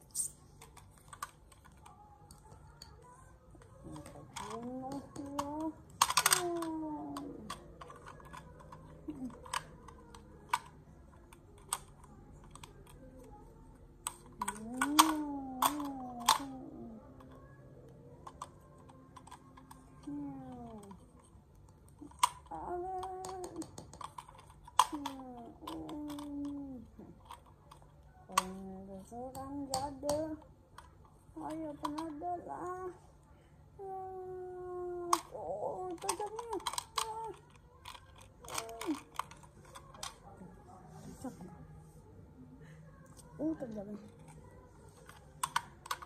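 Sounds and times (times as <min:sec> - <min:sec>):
plastic toys clacking: 0:00.1 - 0:33.0, 0:34.0 - 0:40.4, 0:43.4 - 0:46.0.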